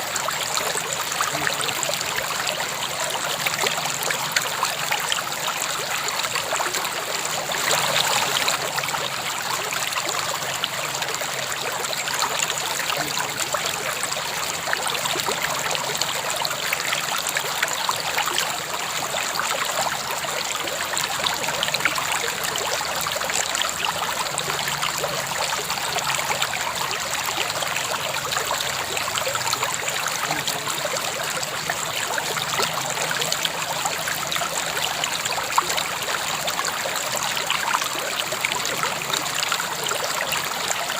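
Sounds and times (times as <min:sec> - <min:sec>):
river water flowing over stones: 0:00.0 - 0:40.9.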